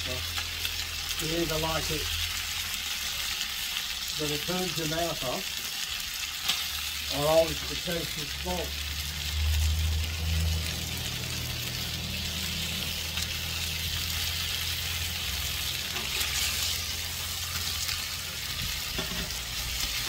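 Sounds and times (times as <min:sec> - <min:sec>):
ribs sizzling in a pan: 0:00.0 - 0:20.0.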